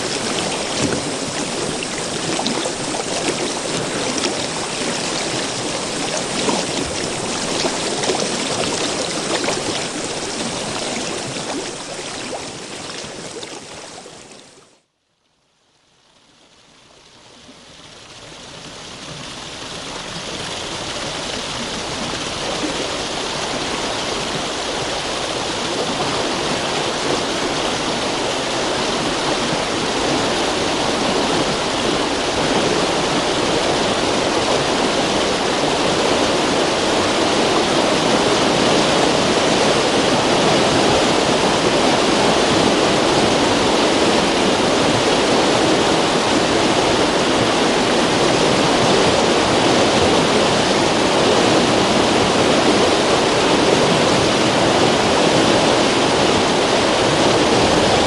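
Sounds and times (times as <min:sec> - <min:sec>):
river rushing over rocks: 0:00.0 - 0:14.6, 0:18.4 - 0:58.0.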